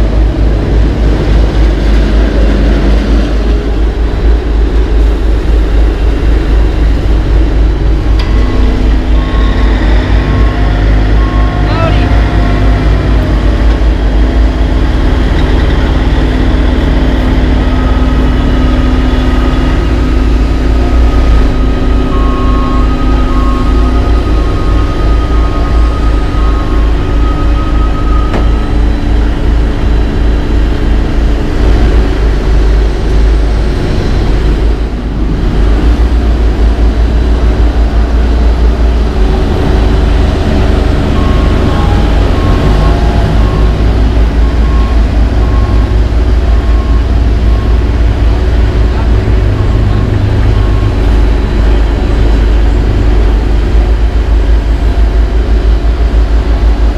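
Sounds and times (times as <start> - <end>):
heavy equipment engines running: 0.0 - 56.9
backup alarm beeping: 4.9 - 34.7, 35.7 - 54.0.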